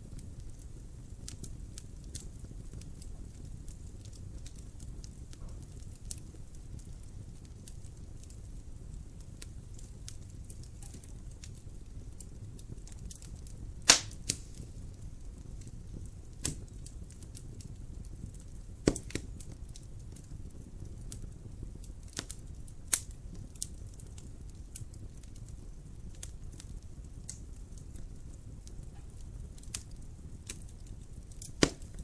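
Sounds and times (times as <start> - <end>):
wood fire crackling: 0.0 - 32.0
sharp pops of burning logs: 0.2 - 32.0.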